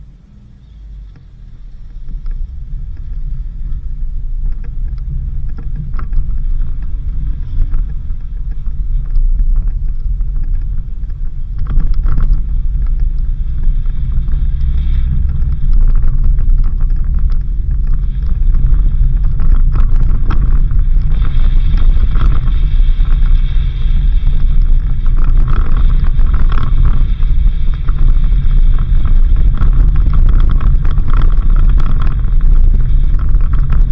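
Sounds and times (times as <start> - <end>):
car engine and road rumble: 0.0 - 33.9
knocks and rattles: 1.1 - 33.9.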